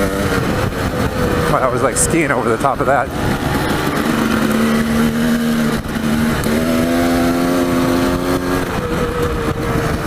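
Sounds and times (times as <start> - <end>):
dirt bike engine revving: 0.0 - 10.0
wind on microphone: 0.0 - 10.0
ground rumble: 0.2 - 10.0.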